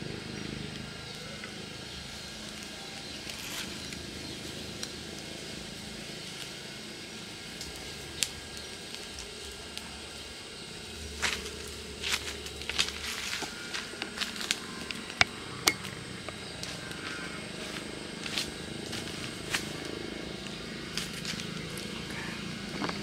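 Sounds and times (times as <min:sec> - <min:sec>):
dry leaves rustling: 0:00.0 - 0:23.0
small fire crackling and popping: 0:00.1 - 0:23.0.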